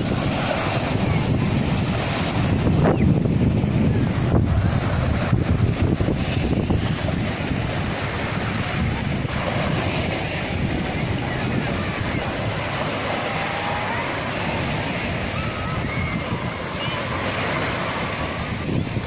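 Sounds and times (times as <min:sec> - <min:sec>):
waves washing onto shore: 0:00.0 - 0:19.0
wind buffeting microphone: 0:00.0 - 0:19.0.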